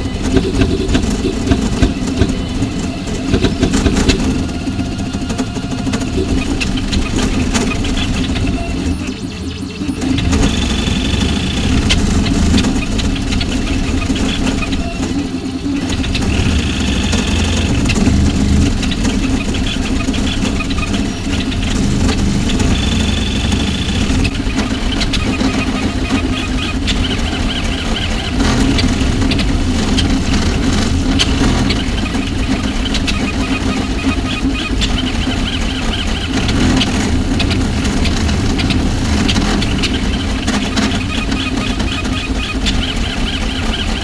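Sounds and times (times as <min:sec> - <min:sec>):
high whine: 0:00.0 - 0:44.0
steady low hum: 0:00.0 - 0:44.0
stepper motors buzzing: 0:00.0 - 0:44.0.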